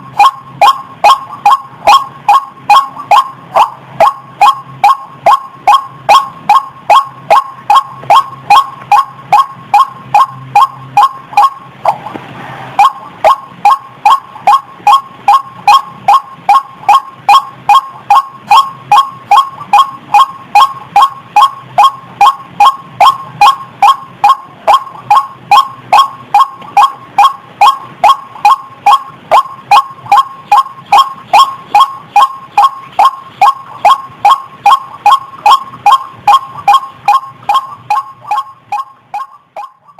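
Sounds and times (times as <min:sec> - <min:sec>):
waterhen calling: 0:00.2 - 0:12.2, 0:12.8 - 0:39.9.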